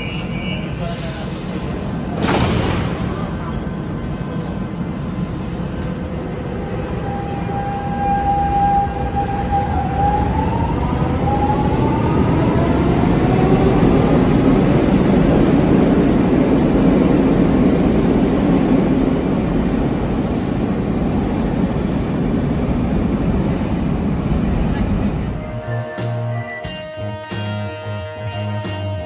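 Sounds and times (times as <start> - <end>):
wheels rumbling on rails: 0.0 - 25.6.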